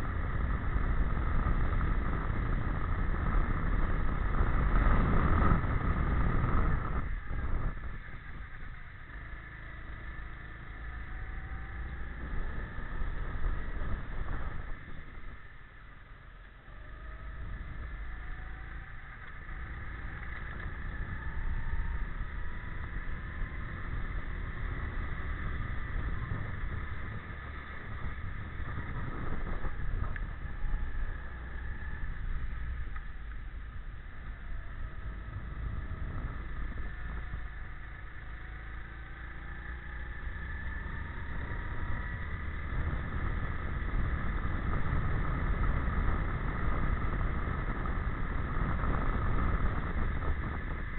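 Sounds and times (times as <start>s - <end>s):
low rumble of wind: 0.0s - 50.9s.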